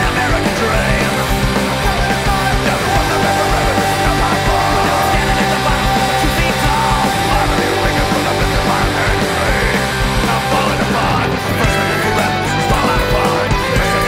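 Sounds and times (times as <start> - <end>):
punk rock band playing: 0.0 - 14.0.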